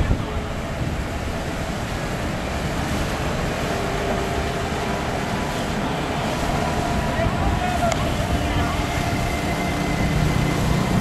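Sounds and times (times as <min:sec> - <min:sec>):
dredging pump machinery rumble: 0:00.0 - 0:11.0
slurry gushing from hose: 0:00.0 - 0:11.0.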